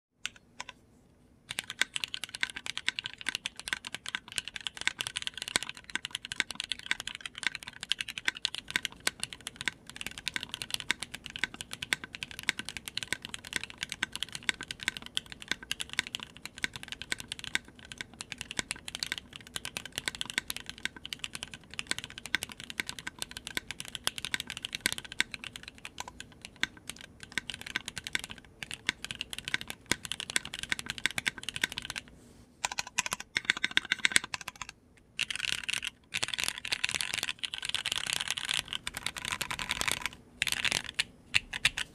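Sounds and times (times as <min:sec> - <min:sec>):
mechanical keyboard typing: 0:01.5 - 0:41.9.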